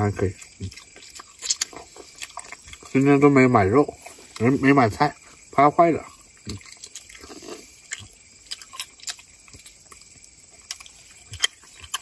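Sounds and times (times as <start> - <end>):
person chewing food: 0.3 - 3.2, 3.9 - 4.6, 5.2 - 12.0.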